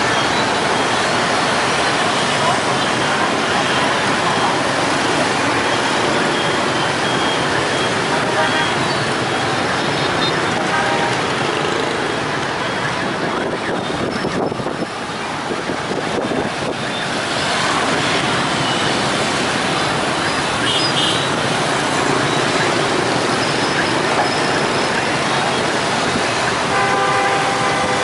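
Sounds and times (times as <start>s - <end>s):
cars and buses: 0.0s - 28.0s
scooter and motorbike engines: 0.0s - 28.0s.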